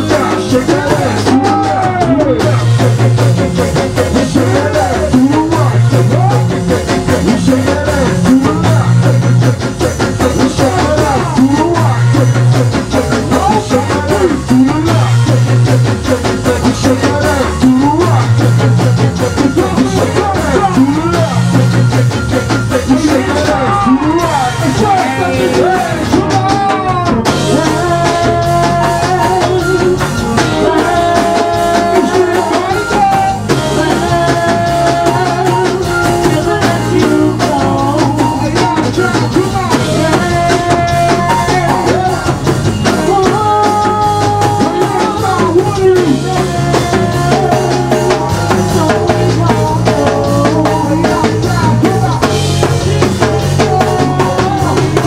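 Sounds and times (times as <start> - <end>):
keyboards: 0.0 - 55.0
live band playing: 0.0 - 55.0
vocalists singing: 0.0 - 55.0.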